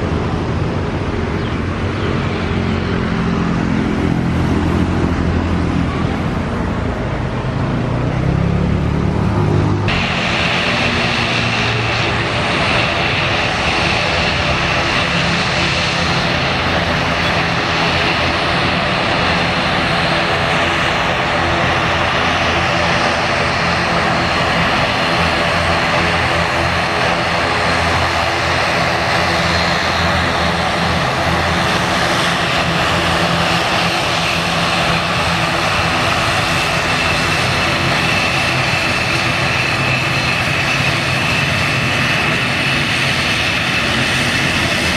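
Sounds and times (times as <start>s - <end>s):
turboprop engines droning: 0.0s - 44.9s.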